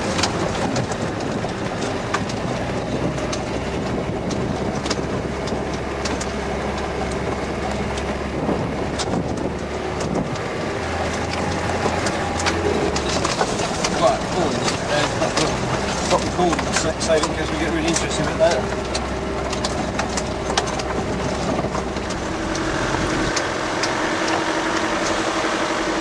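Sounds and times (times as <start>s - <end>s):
body rattles and knocks: 0.0s - 26.0s
diesel engine droning: 0.0s - 26.0s
tyre noise on dirt track: 0.0s - 26.0s.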